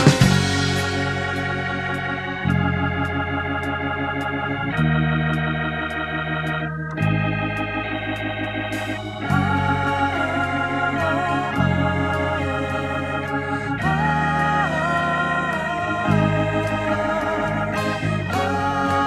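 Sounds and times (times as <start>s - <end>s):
light ticking beat: 0.0s - 19.0s
organ chords: 0.0s - 19.0s
wavering melody line: 0.0s - 19.0s.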